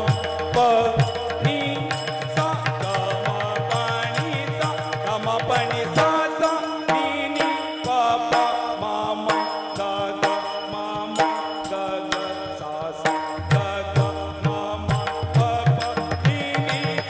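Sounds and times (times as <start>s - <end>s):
drum strokes: 0.0s - 17.0s
ornamented wavering singing: 0.0s - 17.0s
steady held drone tone: 0.0s - 17.0s.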